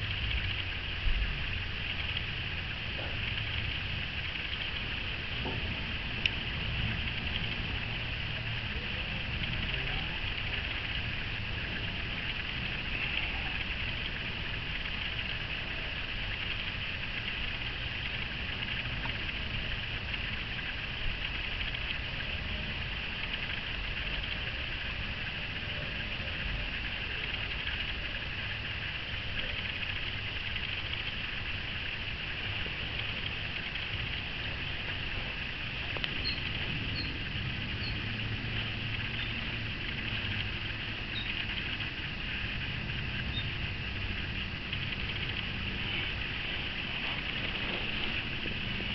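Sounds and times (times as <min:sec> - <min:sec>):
high insect chorus: 0:00.0 - 0:48.9
low rumble: 0:00.0 - 0:48.9.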